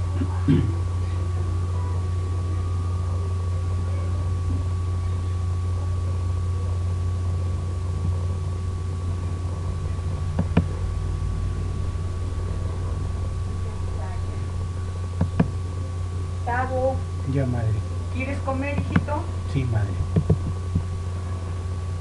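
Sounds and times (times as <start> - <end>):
faint high whine: 0.0 - 22.0
low machine hum: 0.0 - 22.0.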